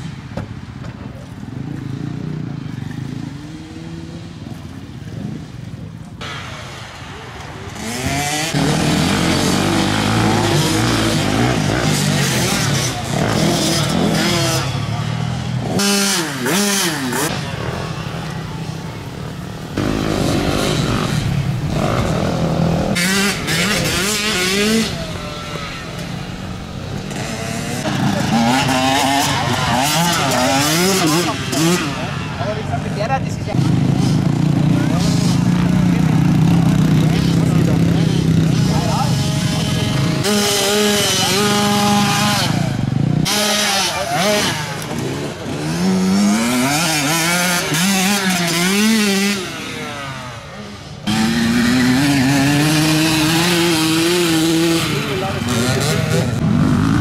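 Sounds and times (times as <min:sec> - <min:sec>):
motocross bike engines: 0:00.0 - 0:57.0
motorbike engine accelerating: 0:07.3 - 0:57.0.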